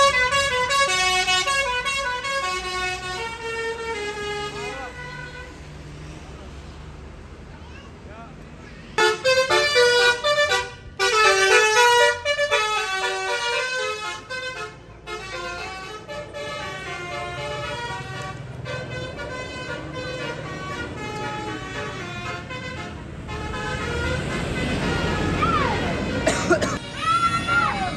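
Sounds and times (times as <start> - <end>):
musical air horn playing a melody: 0.0 - 5.6, 9.0 - 26.3
bus engine running: 0.0 - 27.9.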